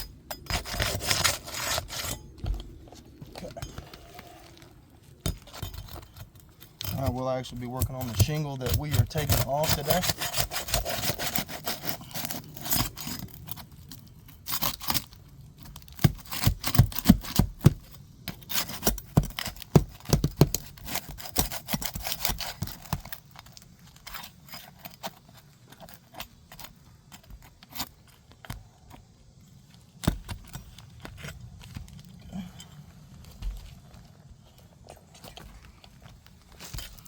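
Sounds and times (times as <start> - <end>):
hand tools scraping shingles: 0.0 - 37.0.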